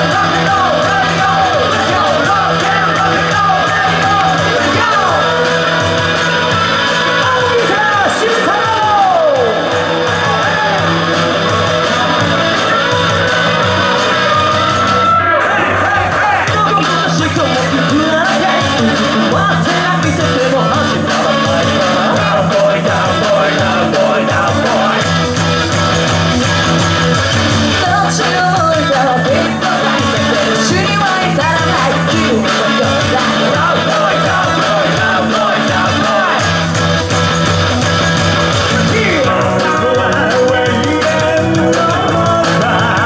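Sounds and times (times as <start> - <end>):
people singing: 0.0 - 25.3, 27.6 - 37.0, 38.6 - 43.0
bass guitar: 0.0 - 43.0
drums: 0.0 - 43.0
electric guitar: 0.0 - 43.0.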